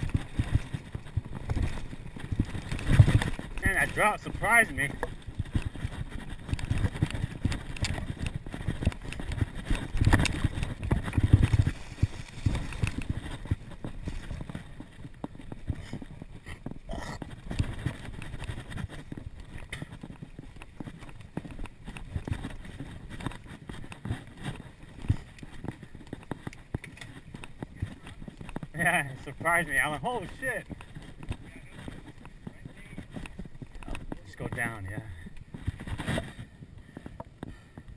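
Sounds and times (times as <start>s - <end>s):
mountain bike rattling: 0.0s - 37.9s.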